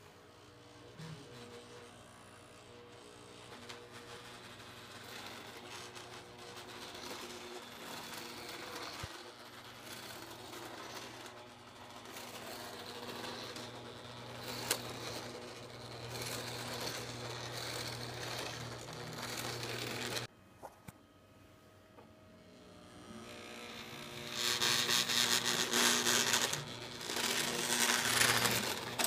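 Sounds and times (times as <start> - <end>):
model train motor hum: 0.0 - 20.3, 22.5 - 29.0.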